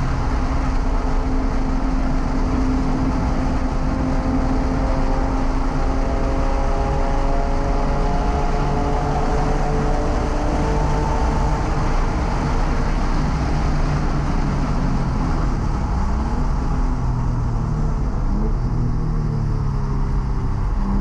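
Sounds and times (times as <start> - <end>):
car engine at full throttle: 0.0 - 21.0
wind and road noise: 0.0 - 21.0.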